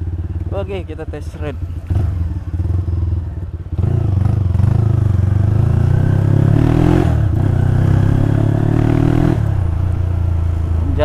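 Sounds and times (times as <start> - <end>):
motorcycle accelerating: 0.0 - 11.0.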